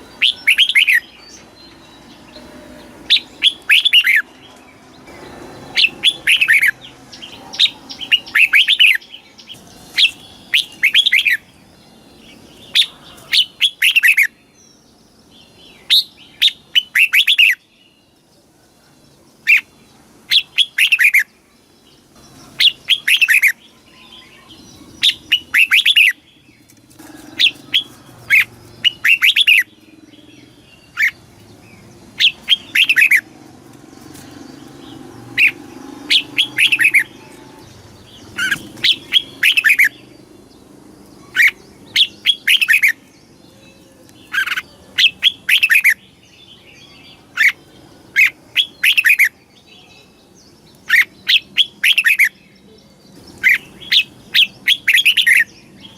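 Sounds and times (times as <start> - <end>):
bulbul singing: 0.0 - 18.4, 19.0 - 55.9.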